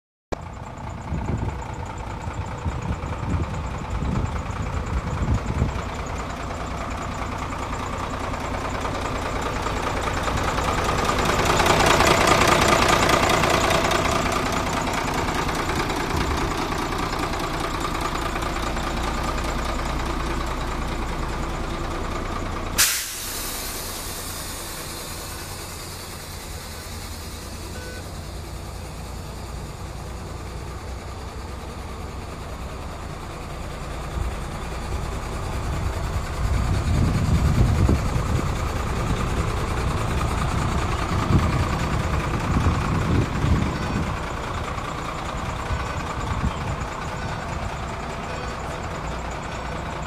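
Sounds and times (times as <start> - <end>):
diesel engine idling: 0.3 - 50.0.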